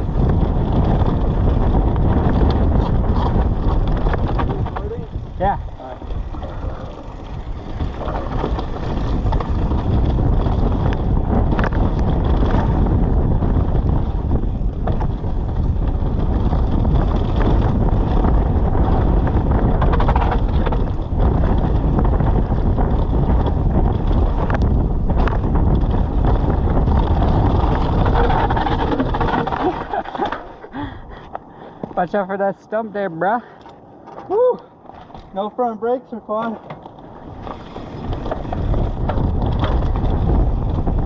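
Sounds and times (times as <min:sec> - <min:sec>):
bike rumble and rattle: 0:00.0 - 0:41.0
wind buffeting microphone: 0:00.0 - 0:41.0.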